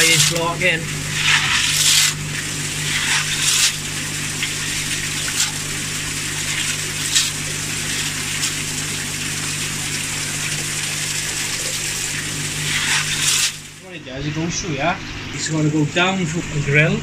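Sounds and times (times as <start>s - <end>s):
water gushing and splashing: 0.0s - 13.9s
low steady hum: 0.0s - 17.0s.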